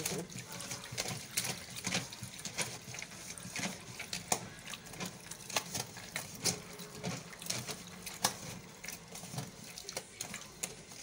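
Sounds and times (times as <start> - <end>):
wet beans rattling in colander: 0.0 - 11.0.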